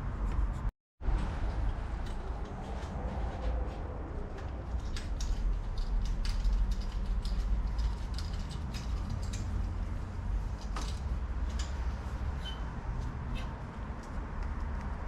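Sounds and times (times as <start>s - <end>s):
metallic clicks and creaks: 0.0s - 15.0s.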